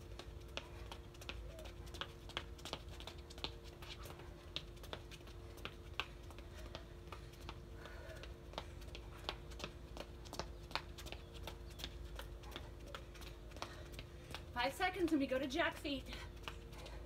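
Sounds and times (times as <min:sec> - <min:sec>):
sneakers tapping on concrete: 0:00.0 - 0:17.0.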